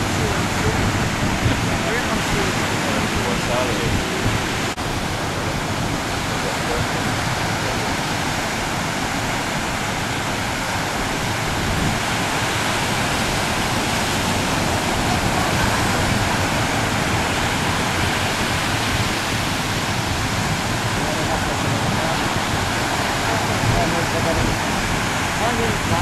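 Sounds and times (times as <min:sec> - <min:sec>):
wind and water rushing around boat: 0:00.0 - 0:26.0.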